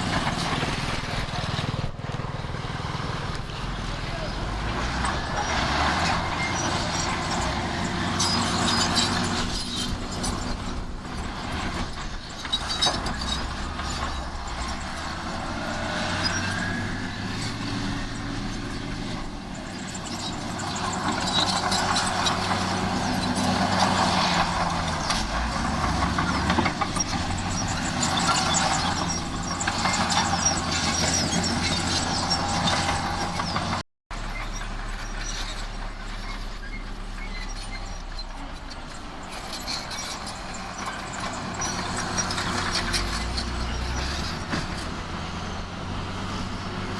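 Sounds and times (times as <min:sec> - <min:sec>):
metallic clanks and squeals: 0:00.0 - 0:01.8, 0:03.3 - 0:46.9
heavy diesel machinery running: 0:00.0 - 0:46.9.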